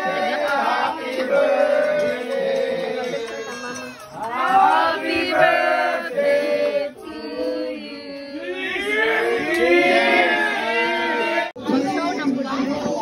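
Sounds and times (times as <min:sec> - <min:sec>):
group of people singing: 0:00.0 - 0:03.5, 0:04.1 - 0:11.5.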